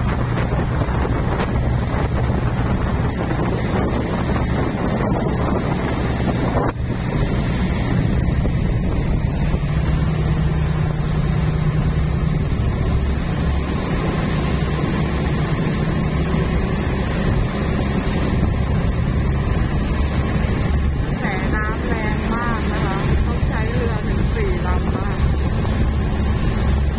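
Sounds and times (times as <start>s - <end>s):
boat engines humming: 0.0s - 26.9s
water washing: 0.0s - 26.9s
wind buffeting microphone: 0.0s - 26.9s.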